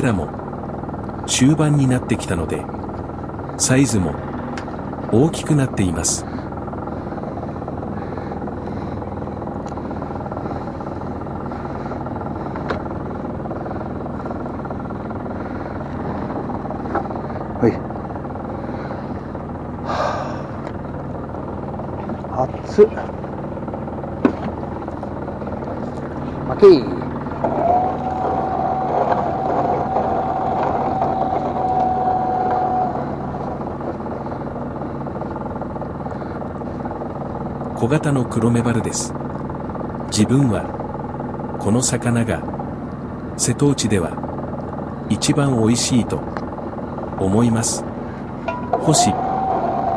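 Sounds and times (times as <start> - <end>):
boat engine running: 0.0 - 49.9
high whine: 0.0 - 49.9.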